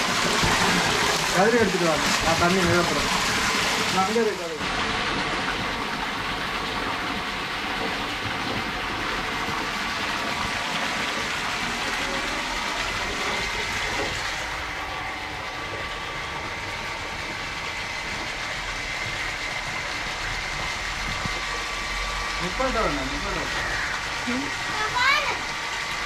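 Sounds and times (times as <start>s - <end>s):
hose water gushing into pool: 0.0s - 26.0s.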